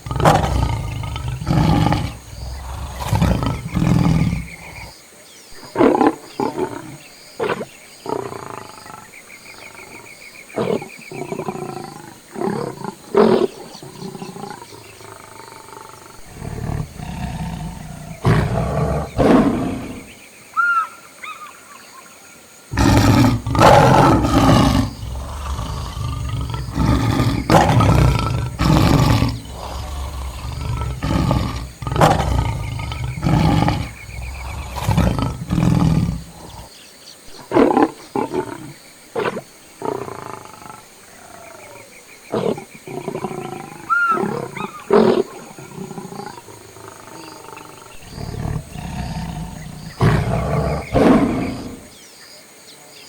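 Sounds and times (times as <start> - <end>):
lions roaring and growling: 0.0 - 4.9, 10.6 - 20.2, 22.7 - 36.7, 37.4 - 51.9.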